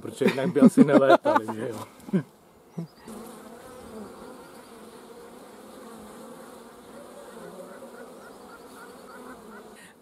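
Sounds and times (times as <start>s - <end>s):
honeybees buzzing: 1.6s - 10.0s.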